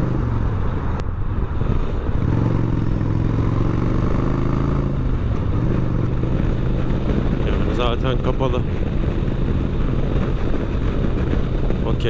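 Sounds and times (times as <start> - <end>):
motorcycle engine running: 0.0 - 1.0, 1.6 - 12.0.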